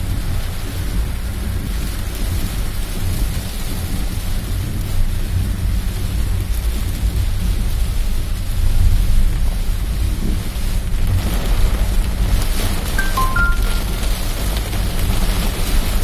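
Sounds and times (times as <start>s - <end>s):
heavy rain drumming on car roof: 0.0s - 16.0s.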